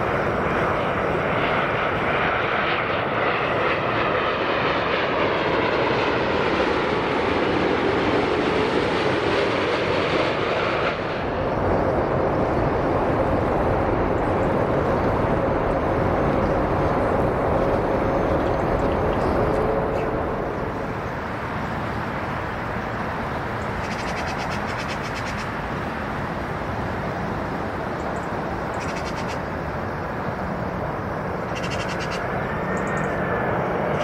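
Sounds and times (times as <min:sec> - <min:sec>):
jet engine noise: 0:00.0 - 0:34.0.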